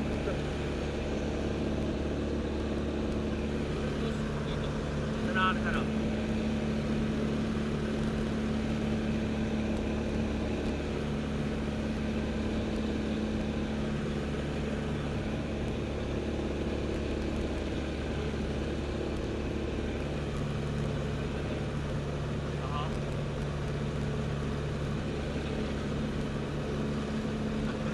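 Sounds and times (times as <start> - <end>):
glider engine and propeller drone: 0.0 - 27.9.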